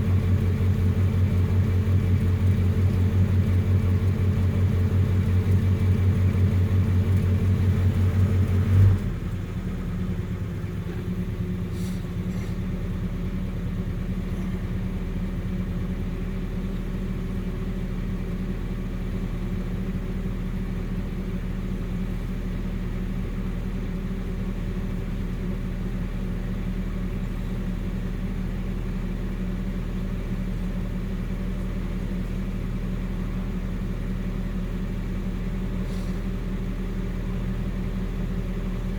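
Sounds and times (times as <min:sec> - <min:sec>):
pickup engine idling: 0:00.0 - 0:38.9.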